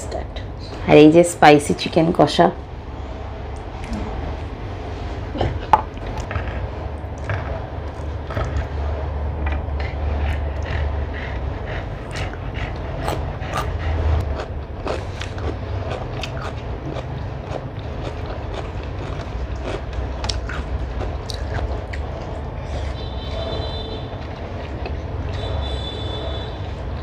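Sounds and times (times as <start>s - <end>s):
steady low hum: 0.0s - 27.0s
chewing: 5.4s - 27.0s.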